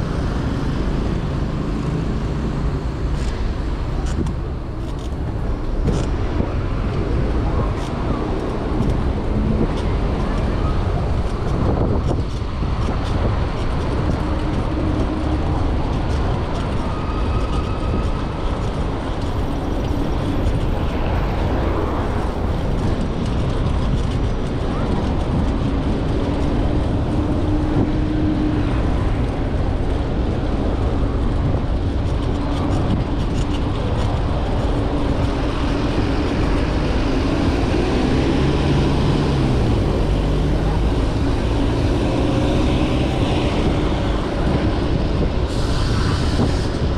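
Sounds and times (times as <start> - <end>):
city traffic passing: 0.0 - 46.9
wind noise on microphone: 0.0 - 46.9.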